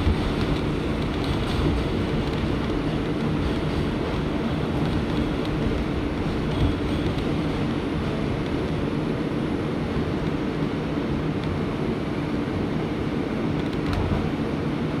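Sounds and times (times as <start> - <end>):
subway car rumble and motor hum: 0.0 - 15.0.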